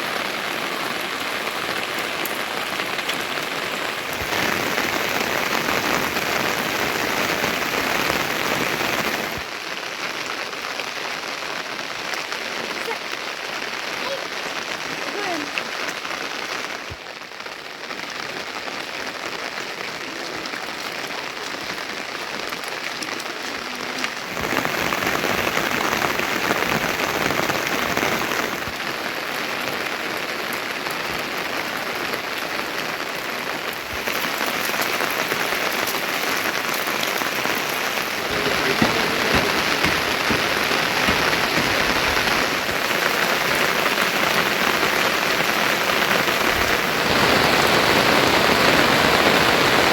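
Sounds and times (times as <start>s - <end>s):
heavy rain hissing: 0.0s - 49.9s.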